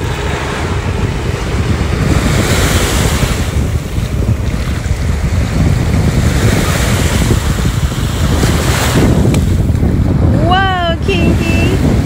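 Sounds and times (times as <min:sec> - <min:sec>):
small waves washing onto beach: 0:00.0 - 0:12.0
wind buffeting microphone: 0:00.0 - 0:12.0.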